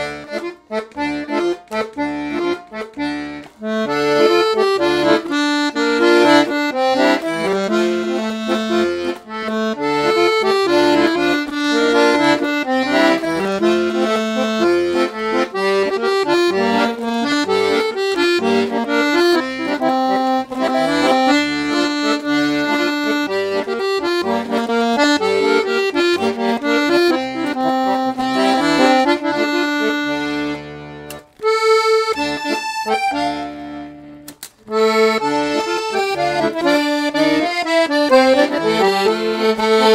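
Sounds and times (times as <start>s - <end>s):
piano accordion playing a tune: 0.0s - 39.9s.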